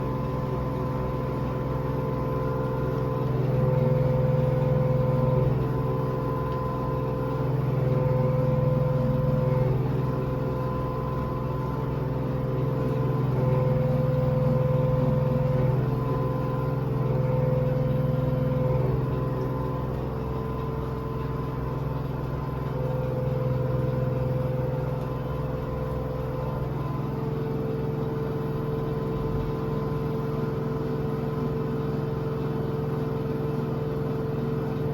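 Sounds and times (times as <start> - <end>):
high whine: 0.0 - 30.5
washing machine spinning: 0.0 - 34.9.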